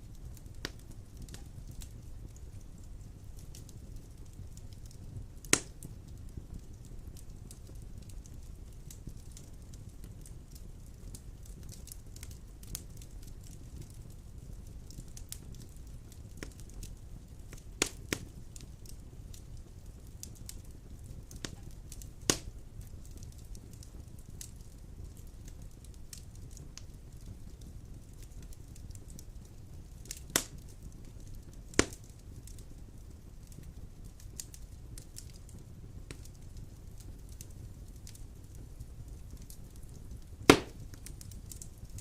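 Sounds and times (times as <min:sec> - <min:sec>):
fire crackling in fireplace: 0:00.0 - 0:42.0
sharp pops of burning logs: 0:00.1 - 0:42.0.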